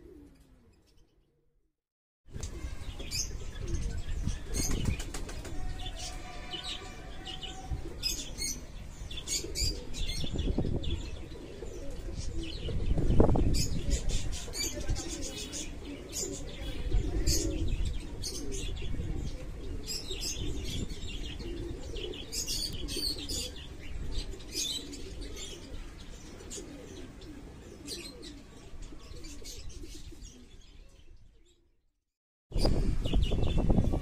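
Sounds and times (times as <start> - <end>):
pigeons cooing: 0.0 - 1.0, 2.4 - 30.8
birds chirping: 2.3 - 31.7.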